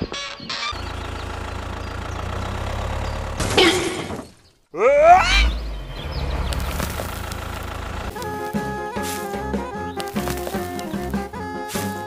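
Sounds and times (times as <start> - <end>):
tractor engine idling: 0.7 - 4.2, 5.7 - 12.0.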